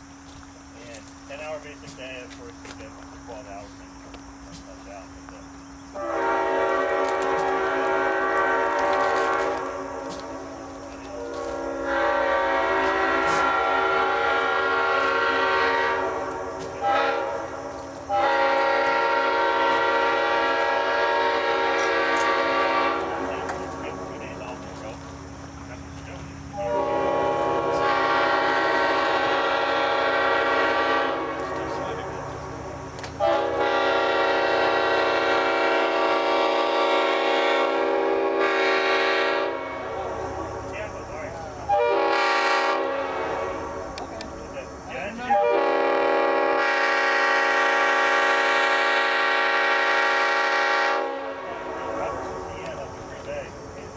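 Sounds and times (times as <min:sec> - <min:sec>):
locomotive air horn blasts: 0:05.9 - 0:24.9, 0:26.5 - 0:53.2.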